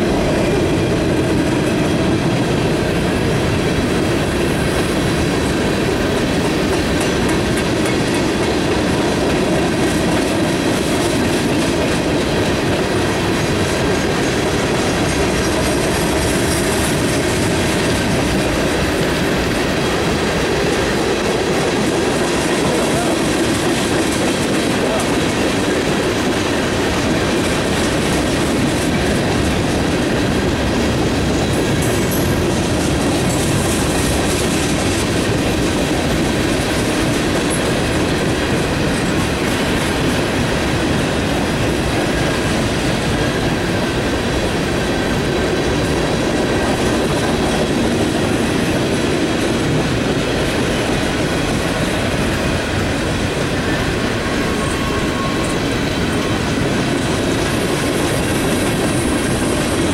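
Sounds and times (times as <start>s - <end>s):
steel wheels rumbling on rail: 0.0s - 59.9s
wheels clicking over rail joints: 0.1s - 59.9s.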